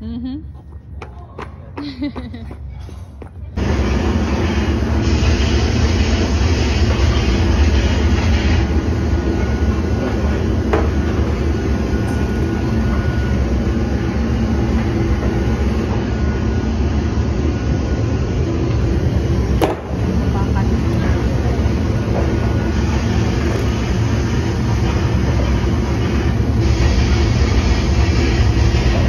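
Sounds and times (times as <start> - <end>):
loud mechanical rumble with hiss: 2.0 - 29.0.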